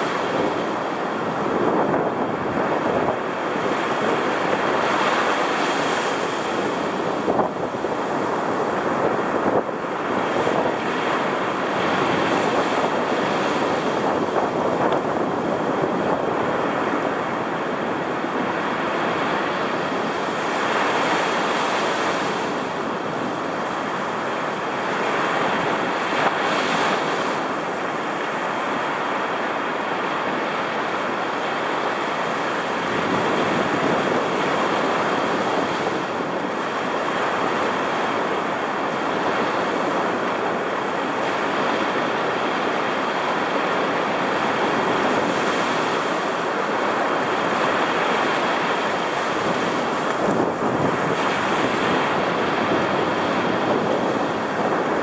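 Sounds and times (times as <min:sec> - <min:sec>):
storm surf breaking: 0:00.0 - 0:55.0
wind buffeting microphone: 0:00.0 - 0:55.0.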